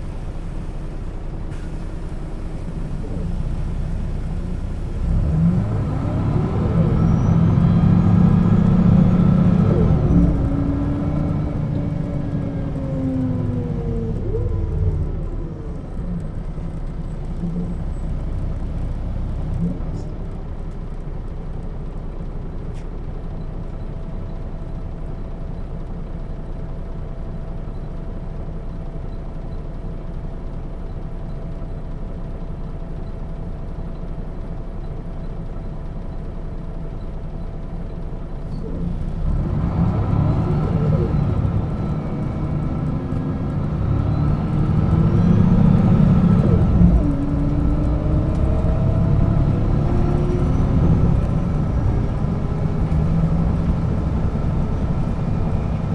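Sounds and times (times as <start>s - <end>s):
bus engine idling and accelerating: 0.0s - 55.9s.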